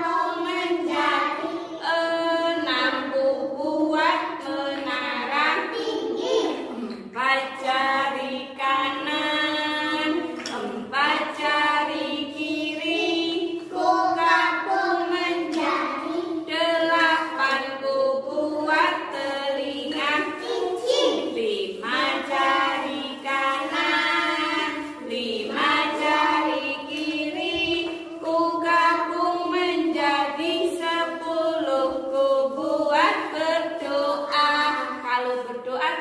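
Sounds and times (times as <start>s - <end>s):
woman and children singing: 0.0s - 36.0s.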